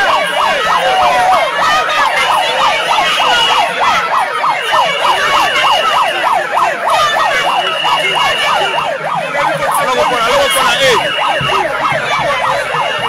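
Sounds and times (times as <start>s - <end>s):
crowd noise: 0.0s - 13.0s
electronic siren yelping: 0.0s - 13.0s.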